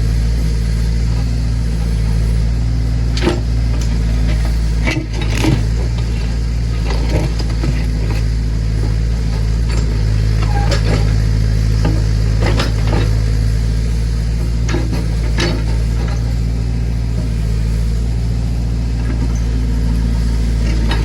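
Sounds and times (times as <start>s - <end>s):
backhoe engine running: 0.0s - 21.0s.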